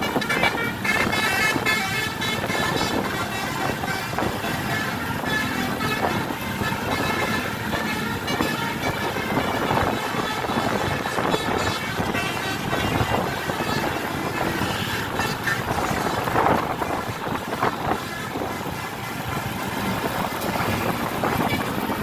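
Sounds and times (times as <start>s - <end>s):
multi-note bus horn tune: 0.0s - 22.0s
road and traffic noise: 0.0s - 22.0s.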